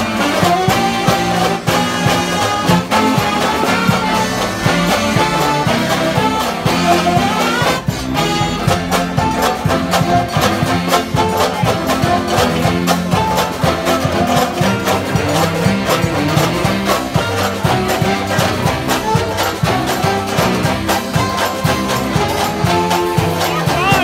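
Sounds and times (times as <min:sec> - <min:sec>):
accordion: 0:00.0 - 0:24.0
banjos strumming: 0:00.0 - 0:24.0
saxophones: 0:00.0 - 0:24.0
string band playing swing jazz: 0:00.0 - 0:24.0.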